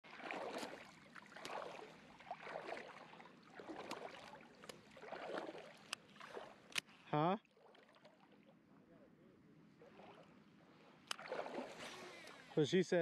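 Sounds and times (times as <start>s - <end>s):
small water splash: 0.0s - 8.6s, 9.8s - 13.0s
shallow water sloshing and lapping: 0.0s - 8.8s, 9.7s - 13.0s.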